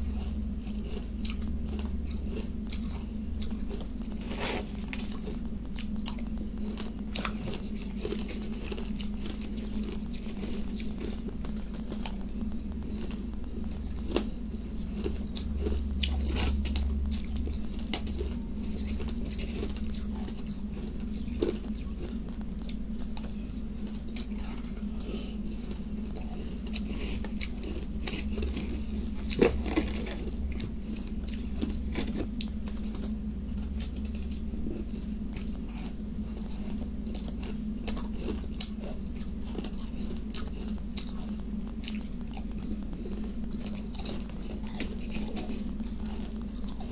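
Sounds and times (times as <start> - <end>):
chewing crushed ice: 0.0 - 46.9
steady low hum: 0.0 - 46.9.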